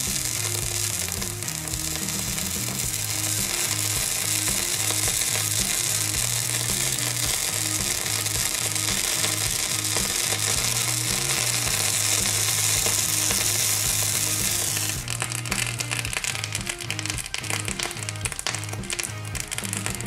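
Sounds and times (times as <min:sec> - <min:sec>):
background music with bass line: 0:00.0 - 0:20.0
light crackling: 0:00.0 - 0:20.0
toothpaste sizzling on hot metal: 0:00.0 - 0:20.0.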